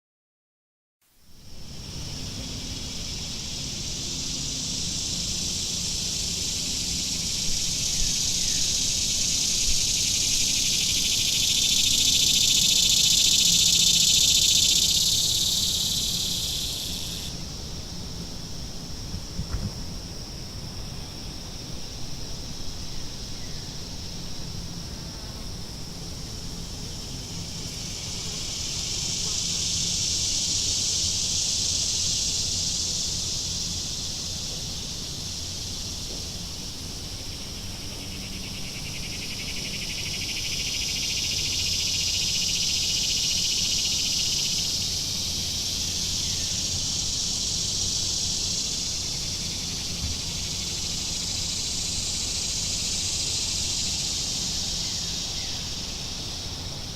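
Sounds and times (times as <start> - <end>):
cicadas buzzing: 1.1 - 56.9.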